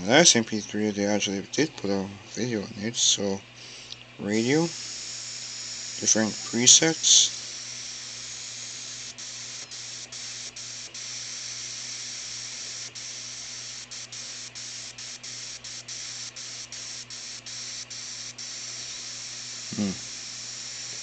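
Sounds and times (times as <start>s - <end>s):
radio static hiss: 0.0s - 3.4s, 4.2s - 21.0s.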